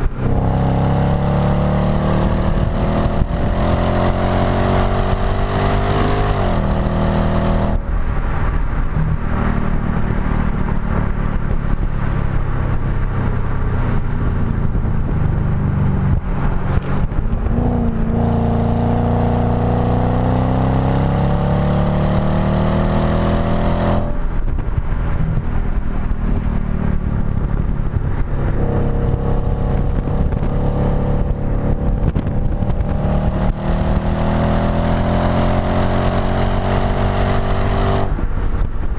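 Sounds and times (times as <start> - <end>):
car engine revving through exhaust: 0.0 - 38.4.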